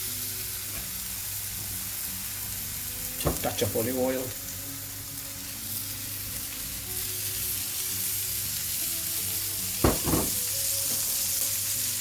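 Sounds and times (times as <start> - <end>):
vegetables sizzling in frying pan: 0.0 - 12.0.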